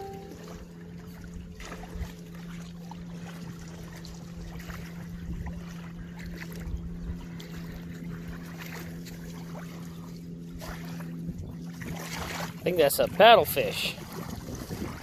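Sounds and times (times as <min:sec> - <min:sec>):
river water splashing around kayak: 0:00.0 - 0:15.0.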